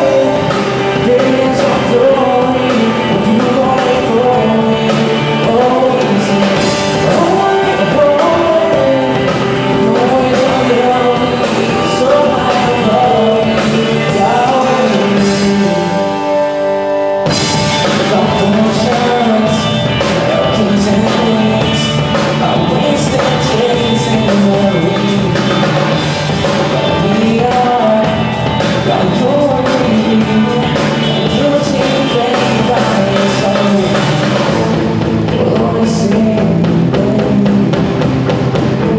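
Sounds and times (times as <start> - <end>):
man singing: 0.0 - 38.9
rock band playing: 0.0 - 38.9.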